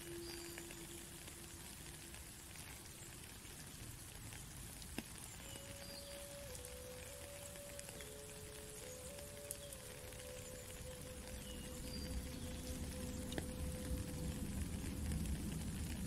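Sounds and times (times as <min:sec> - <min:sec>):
slow flute melody: 0:00.0 - 0:02.8, 0:05.2 - 0:16.0
steady rain: 0:00.0 - 0:16.0.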